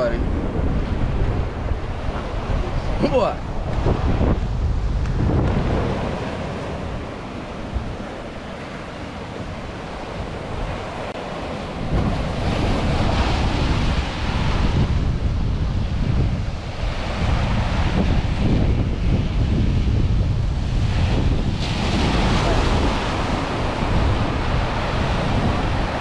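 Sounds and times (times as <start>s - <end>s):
sea waves washing against rocks: 0.0s - 26.0s
wind rumbling on microphone: 0.0s - 26.0s.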